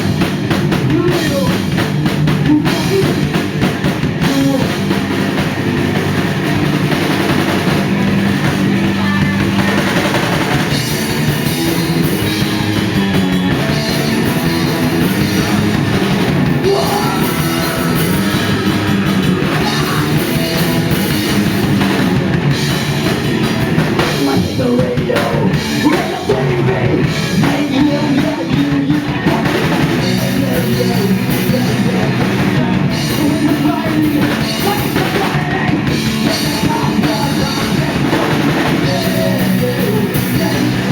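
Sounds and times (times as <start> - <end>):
drum kit beat: 0.0 - 40.9
guitars: 0.0 - 40.9
punk rock band playing live: 0.0 - 40.9.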